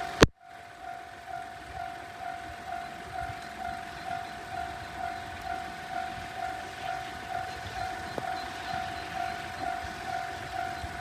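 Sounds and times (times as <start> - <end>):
level-crossing warning bell ringing: 0.0 - 11.0.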